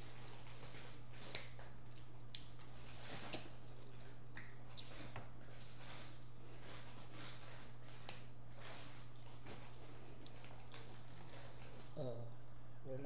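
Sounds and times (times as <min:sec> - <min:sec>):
chewing: 0:00.0 - 0:12.0
steady low hum: 0:00.0 - 0:13.0.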